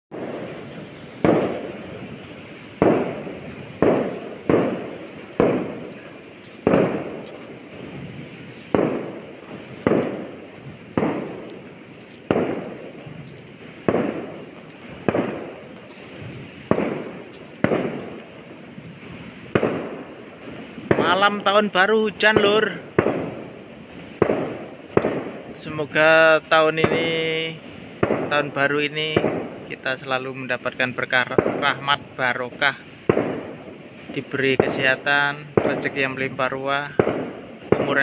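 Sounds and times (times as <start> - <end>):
fireworks bangs with rolling echo: 0.1 - 38.0.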